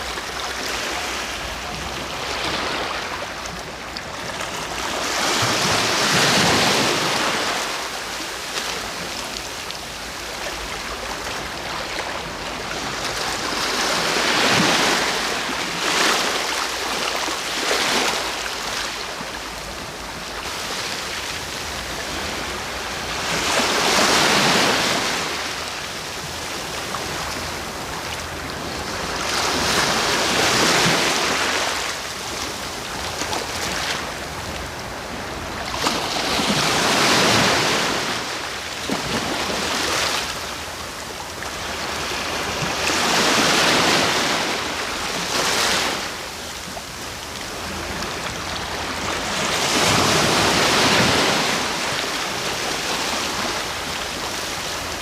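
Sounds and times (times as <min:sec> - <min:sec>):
steady wash of surf: 0:00.0 - 0:55.0
waves breaking on shore: 0:00.0 - 0:55.0.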